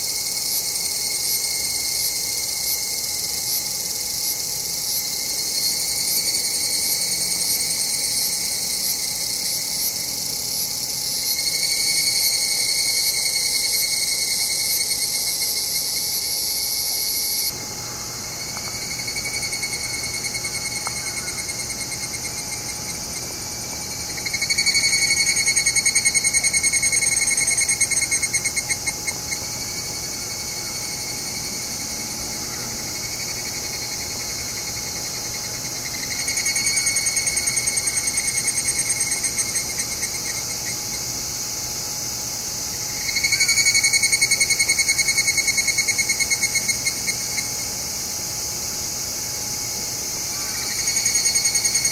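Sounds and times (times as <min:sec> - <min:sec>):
cicada pulsing call: 0:00.0 - 0:51.9
cicadas chorus trilling: 0:00.0 - 0:51.9.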